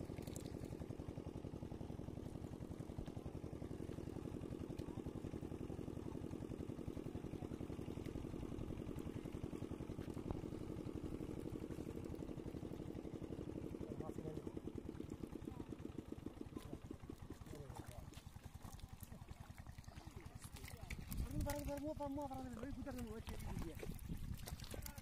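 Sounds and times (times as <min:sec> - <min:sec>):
small engine idling: 0:00.0 - 0:25.0.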